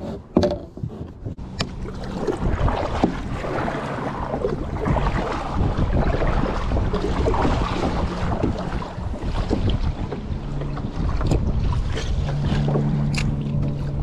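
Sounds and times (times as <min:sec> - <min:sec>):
water slapping kayak hull: 0:00.0 - 0:14.0
wind buffeting microphone: 0:00.8 - 0:14.0.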